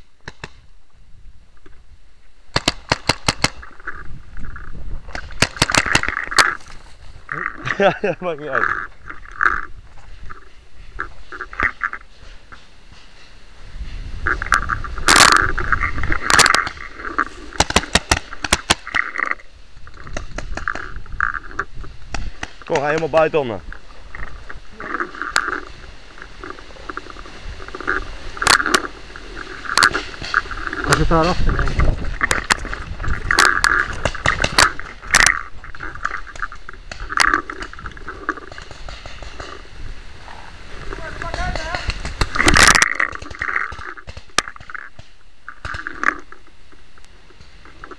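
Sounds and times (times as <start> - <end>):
sharp cracks: 0.0 - 0.7, 2.5 - 7.8, 14.2 - 39.7, 40.9 - 47.9
straw rustling against microphone: 8.4 - 47.9.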